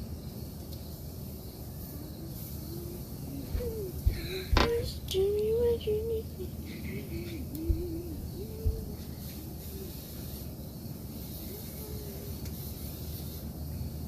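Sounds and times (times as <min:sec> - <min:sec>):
low hum: 0:00.0 - 0:14.0
steady hiss: 0:00.0 - 0:14.0.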